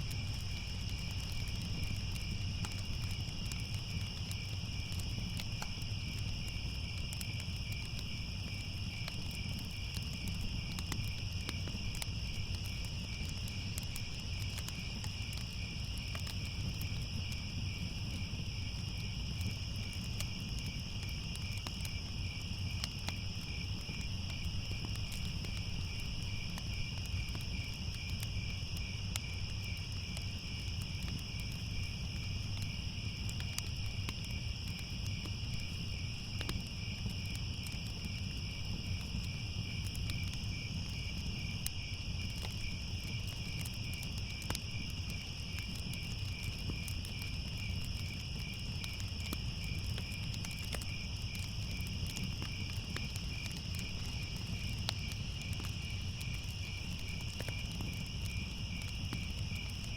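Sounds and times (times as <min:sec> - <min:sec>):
crickets chirping: 0:00.0 - 0:59.9
fire crackling: 0:00.0 - 0:59.9.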